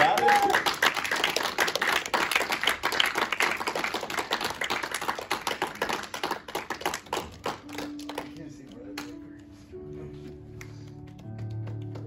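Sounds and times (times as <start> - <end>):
group applauding: 0.0 - 9.2, 10.6 - 12.0.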